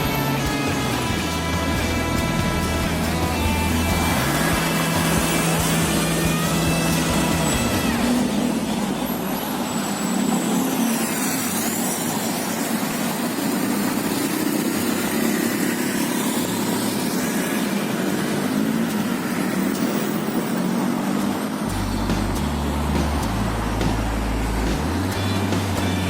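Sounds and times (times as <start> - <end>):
motorbike engine running: 0.0 - 26.0
wind and road noise: 0.0 - 26.0.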